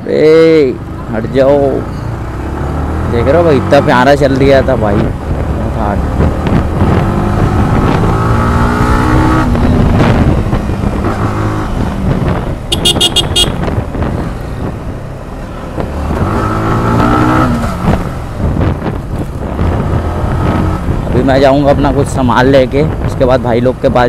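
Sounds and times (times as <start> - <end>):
motorcycle engine revving: 0.9 - 21.3.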